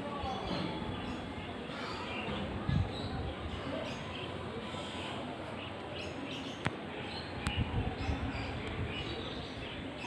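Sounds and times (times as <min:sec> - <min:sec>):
birds chirping: 0:00.1 - 0:10.0.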